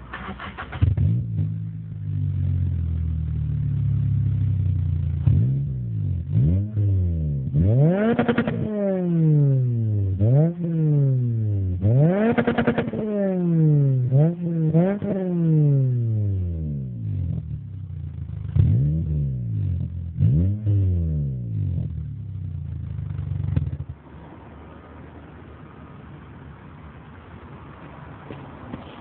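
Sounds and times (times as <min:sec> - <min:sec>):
car engine revving: 0:00.0 - 0:24.3.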